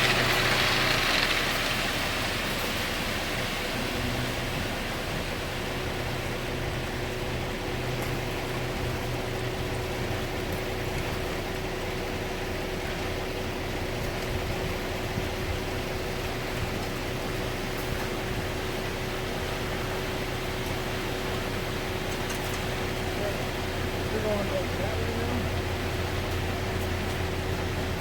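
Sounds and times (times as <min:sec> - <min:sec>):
truck engine hum: 0:00.0 - 0:28.0.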